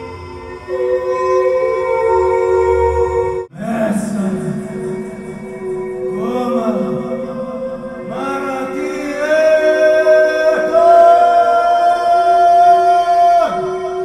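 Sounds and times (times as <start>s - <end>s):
looped vocal drone: 0.0s - 14.0s
person singing long notes: 0.0s - 14.0s.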